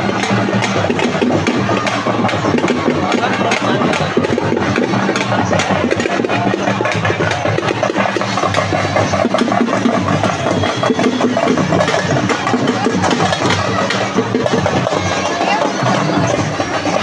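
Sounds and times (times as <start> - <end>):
drum troupe playing fast drumming: 0.0 - 17.0.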